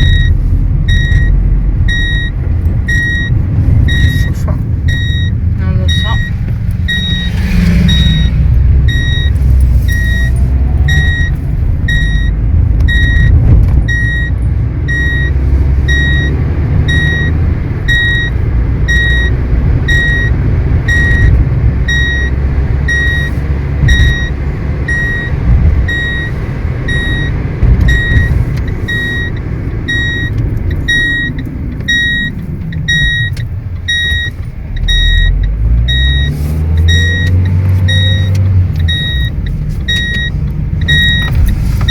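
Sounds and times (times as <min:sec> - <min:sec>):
seat belt warning chime: 0:00.0 - 0:13.3, 0:13.9 - 0:21.3, 0:21.9 - 0:41.9
car engine: 0:00.0 - 0:41.9
road noise: 0:00.0 - 0:41.9.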